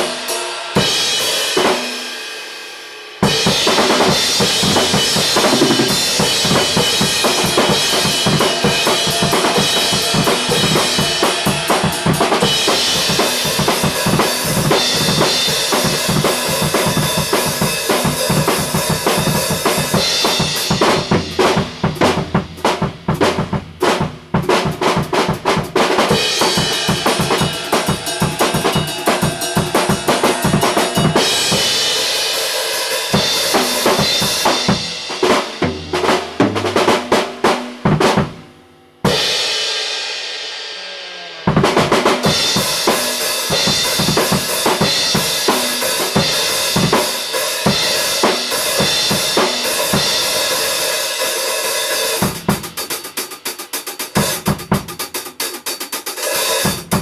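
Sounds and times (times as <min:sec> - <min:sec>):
drum kit playing: 0:00.0 - 0:57.0.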